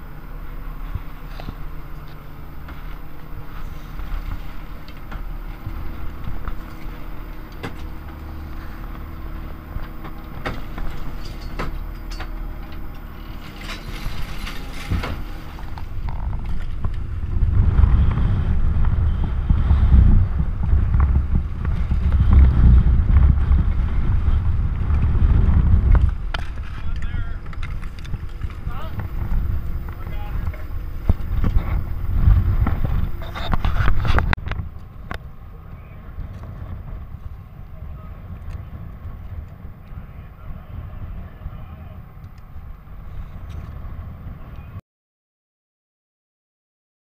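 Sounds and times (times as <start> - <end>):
boat engine running: 0.0 - 44.8
loud low rumble: 0.0 - 44.8.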